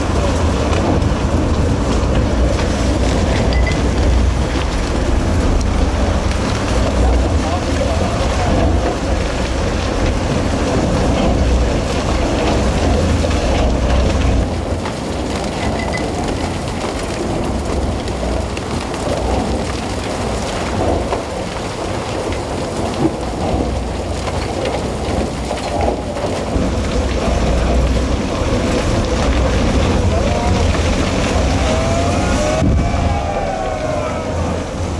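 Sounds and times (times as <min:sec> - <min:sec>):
boring machine grinding rock: 0:00.0 - 0:34.9
water hoses spraying: 0:00.0 - 0:34.9.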